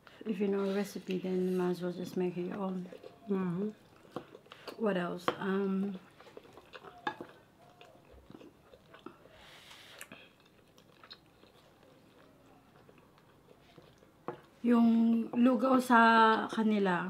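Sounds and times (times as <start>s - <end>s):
faint chewing: 0.0s - 16.7s.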